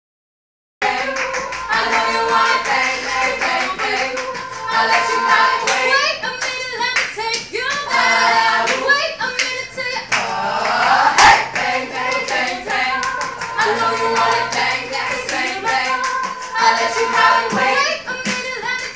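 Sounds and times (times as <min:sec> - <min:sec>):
hand claps: 0:00.8 - 0:18.9
women singing in harmony: 0:00.8 - 0:18.9.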